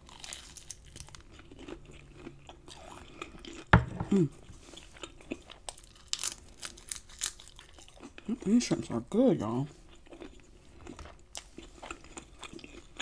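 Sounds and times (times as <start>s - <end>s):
crunching and chewing fried food: 0.0s - 13.0s.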